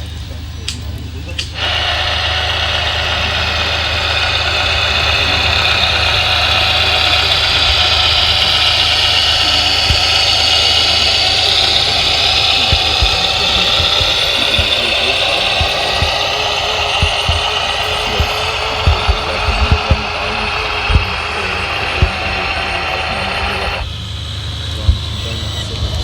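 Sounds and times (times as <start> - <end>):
high-pitched motor whine: 0.0 - 26.0
low engine-like drone: 0.0 - 26.0.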